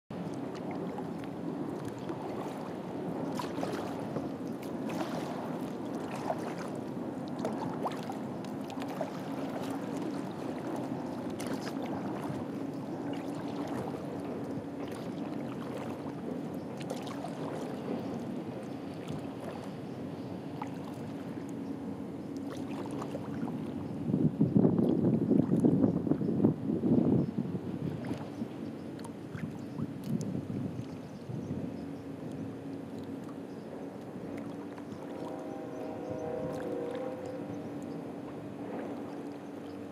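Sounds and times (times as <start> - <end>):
water drips and splashes on hull: 0.1 - 24.0, 24.6 - 26.3, 27.8 - 39.9
soft water noise: 0.1 - 39.9
steady low hum: 0.1 - 39.9.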